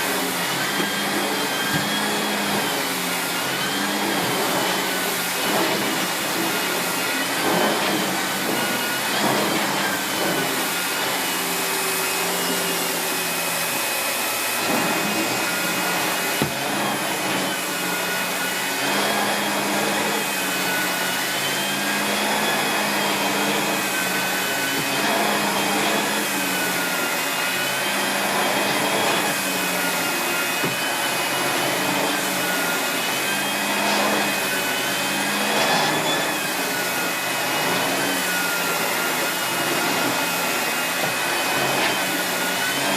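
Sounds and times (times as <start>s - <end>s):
vacuum cleaner motor whine: 0.0s - 42.9s.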